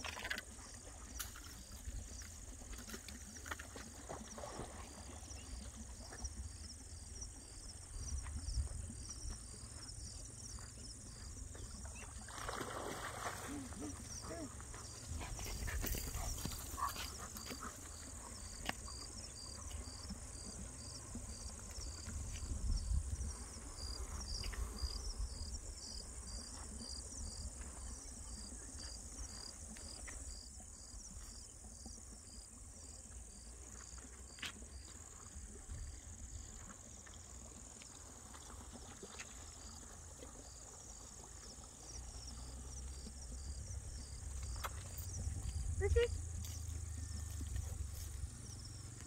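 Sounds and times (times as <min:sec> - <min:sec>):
crickets chirping: 0:00.0 - 0:49.0.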